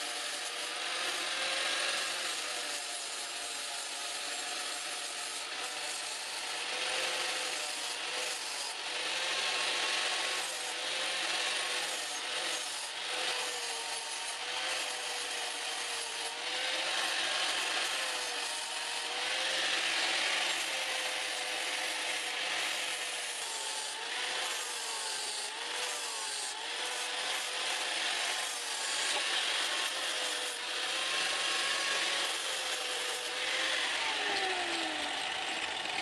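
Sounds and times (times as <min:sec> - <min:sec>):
angle grinder grinding steel: 0:00.0 - 0:36.0.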